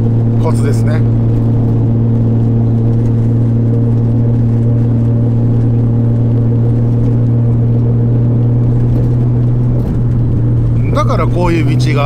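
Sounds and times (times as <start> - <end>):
car engine cruising: 0.0 - 12.0
low road rumble: 0.0 - 12.0.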